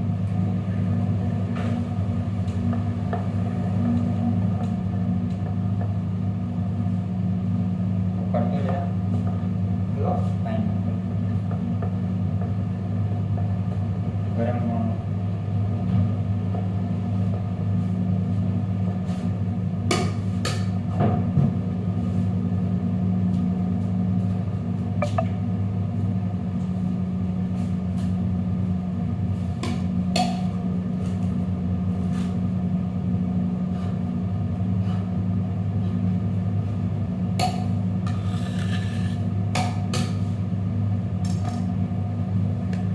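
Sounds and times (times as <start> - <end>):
low electrical hum: 0.0 - 42.9.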